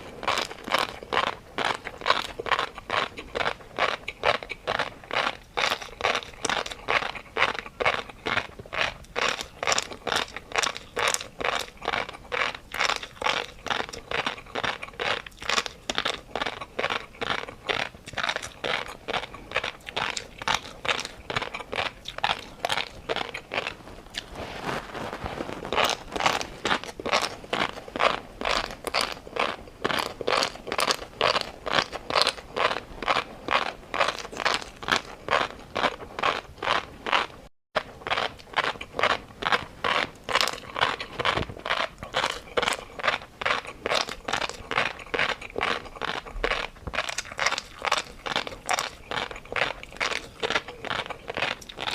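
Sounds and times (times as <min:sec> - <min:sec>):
crunchy chewing of food: 0:00.0 - 0:51.9.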